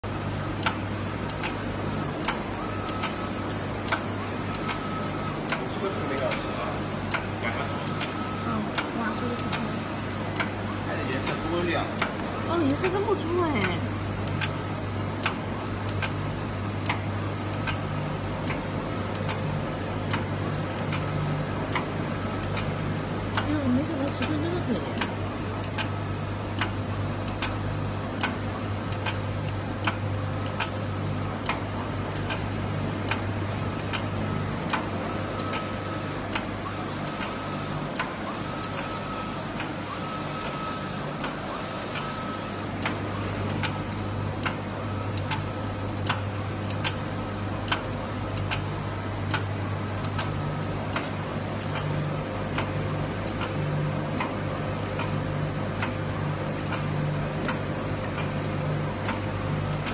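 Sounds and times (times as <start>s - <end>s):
printer mechanical hum: 0.0s - 59.9s
regular printer click: 0.0s - 59.9s.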